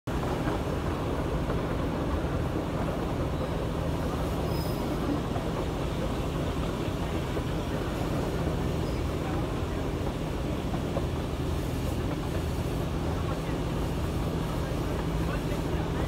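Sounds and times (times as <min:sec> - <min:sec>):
train coach rumbling and rattling: 0:00.1 - 0:16.0.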